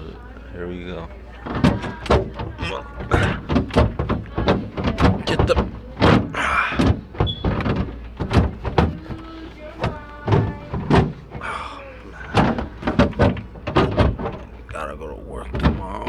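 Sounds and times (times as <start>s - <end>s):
scraping: 0.0s - 16.0s
refrigerator door knocking and slamming: 0.8s - 16.0s.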